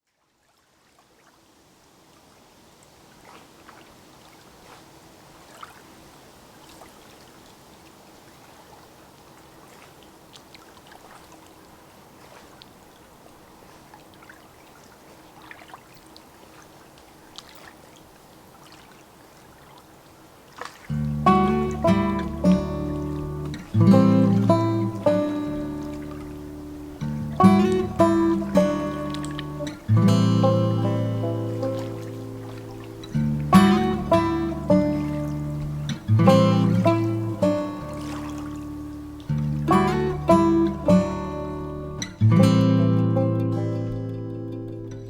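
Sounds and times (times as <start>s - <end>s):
small splashes and drips: 0.0s - 42.3s
faint moving water: 0.0s - 45.0s.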